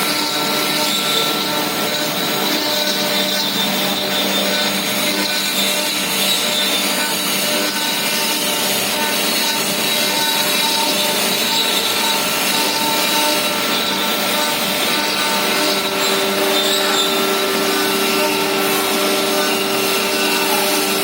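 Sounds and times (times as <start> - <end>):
high machine whine: 0.0 - 21.0
stone router grinding: 0.0 - 21.0.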